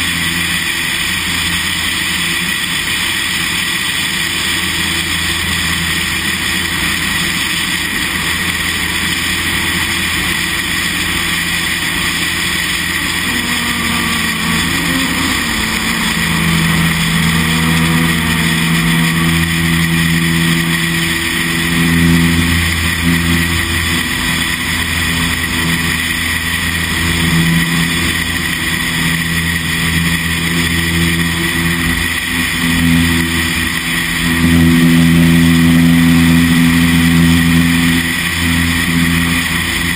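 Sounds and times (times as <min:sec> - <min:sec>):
light aircraft engine at full power: 0:00.0 - 0:39.9.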